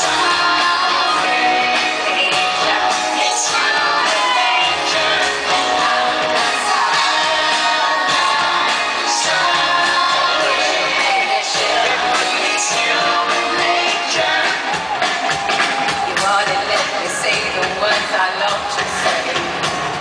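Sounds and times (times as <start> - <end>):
live pop music with singing: 0.0 - 20.0.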